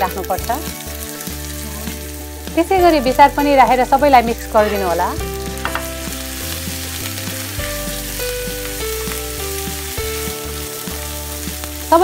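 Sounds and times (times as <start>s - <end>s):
soft background music: 0.0s - 12.0s
spices sizzling in hot oil: 0.0s - 12.0s.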